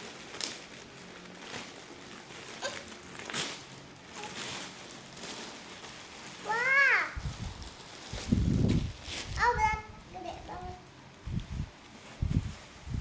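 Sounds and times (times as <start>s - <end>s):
parcel rustling and crinkling: 0.0s - 13.0s.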